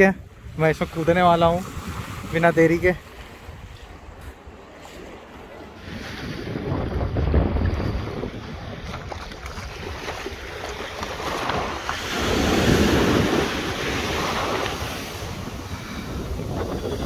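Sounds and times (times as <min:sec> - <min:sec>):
wind buffeting microphone: 0:00.0 - 0:17.0
small waves splashing around feet: 0:00.3 - 0:17.0.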